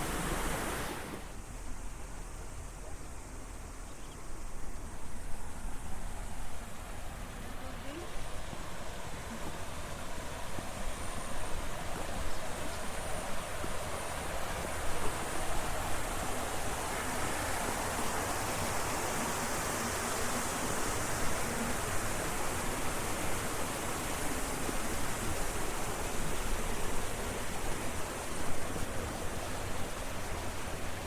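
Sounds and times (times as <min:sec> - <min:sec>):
water rushing in a channel: 0:00.0 - 0:31.0.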